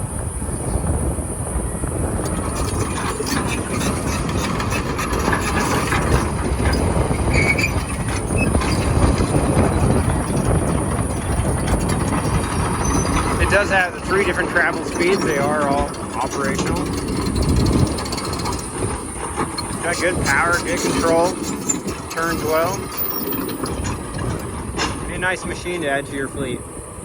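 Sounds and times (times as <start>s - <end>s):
diesel engine running under load: 0.0s - 27.0s
steel tracks clanking and squealing: 1.5s - 27.0s.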